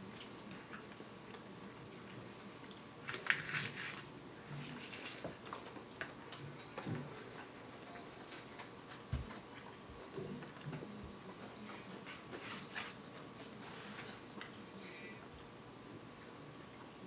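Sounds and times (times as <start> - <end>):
person chewing food: 0.0 - 15.5.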